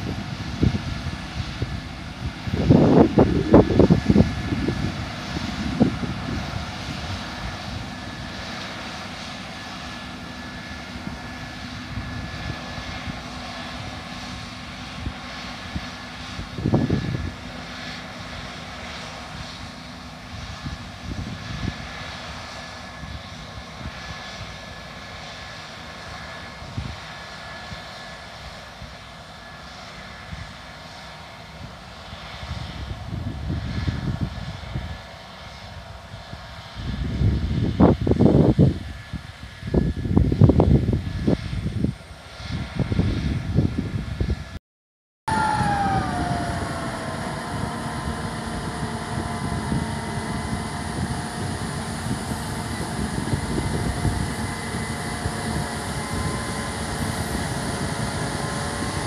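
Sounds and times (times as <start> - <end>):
wind buffeting microphone: 0.0 - 17.6, 20.2 - 24.7, 32.4 - 44.6, 45.3 - 59.0
combine harvester drone: 0.0 - 44.6, 45.3 - 59.0.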